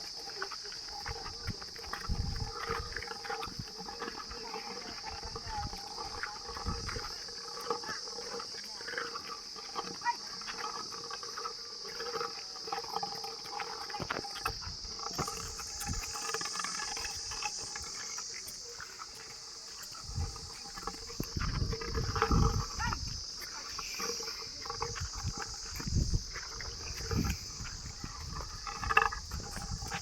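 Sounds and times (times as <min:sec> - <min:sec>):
high insect drone: 0:00.0 - 0:30.0
water buffaloes lowing: 0:00.0 - 0:30.0.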